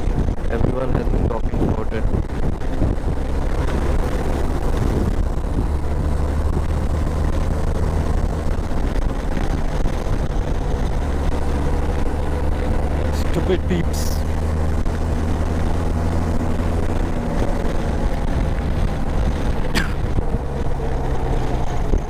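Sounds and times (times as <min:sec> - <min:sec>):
motorcycle engine cruising: 0:00.0 - 0:22.0
road noise: 0:00.0 - 0:22.0
wind noise: 0:00.0 - 0:22.0.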